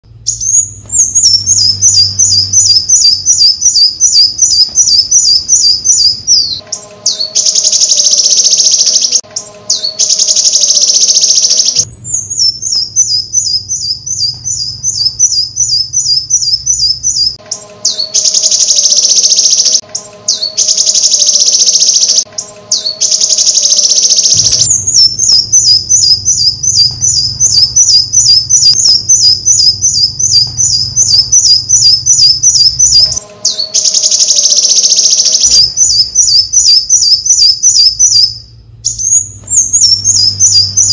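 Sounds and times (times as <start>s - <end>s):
harsh buzzy bird trilling: 0.1s - 40.9s
quick repeated bird chirps: 0.3s - 40.9s.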